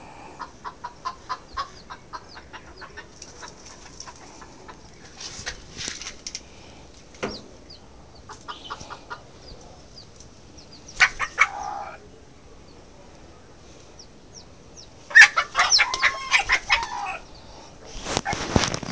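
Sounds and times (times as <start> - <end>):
chicken clucking and squawking: 0.0 - 5.8, 7.4 - 12.8, 14.0 - 18.6.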